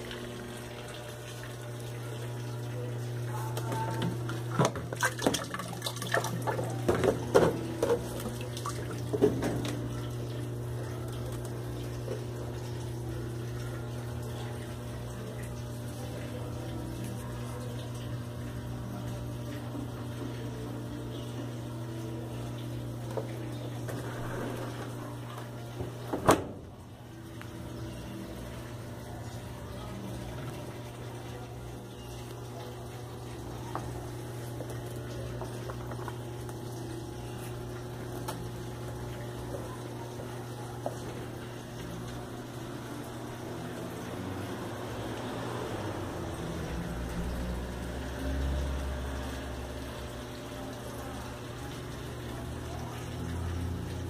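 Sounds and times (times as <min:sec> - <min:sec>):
motor hum: 0:00.0 - 0:54.0
washing machine running: 0:00.0 - 0:54.0
water splashing inside: 0:00.0 - 0:54.0.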